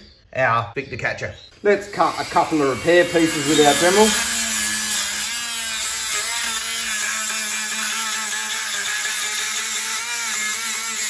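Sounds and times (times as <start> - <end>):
rotary tool cutting plastic: 1.7 - 11.0.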